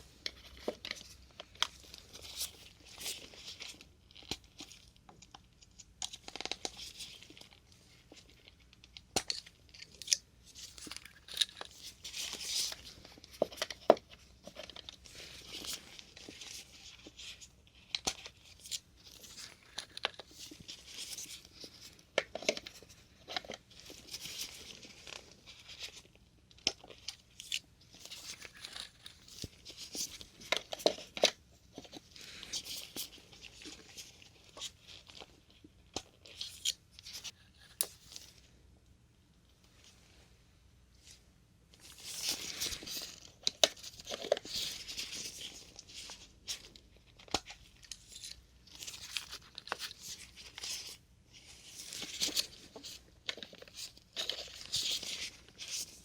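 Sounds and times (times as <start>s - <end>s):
plastic rustling and scraping: 6.1s - 38.6s, 39.5s - 56.0s.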